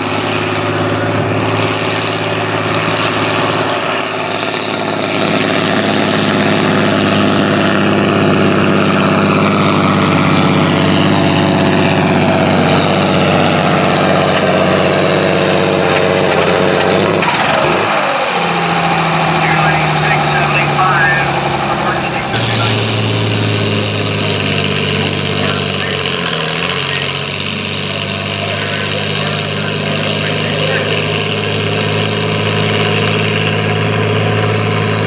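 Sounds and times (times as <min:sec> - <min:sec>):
lower steady engine tone: 0:00.0 - 0:35.0
tractor engine running hard: 0:00.0 - 0:35.0.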